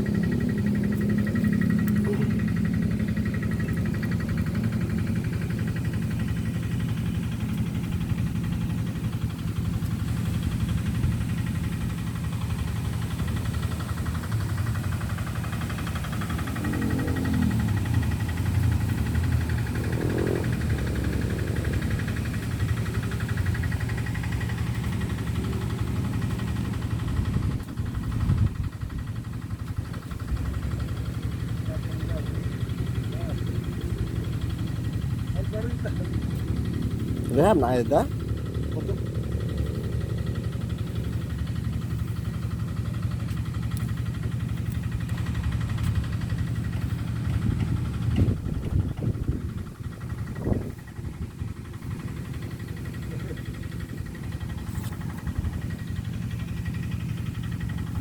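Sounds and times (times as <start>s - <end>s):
engine running with pulsing hum: 0.0s - 58.0s.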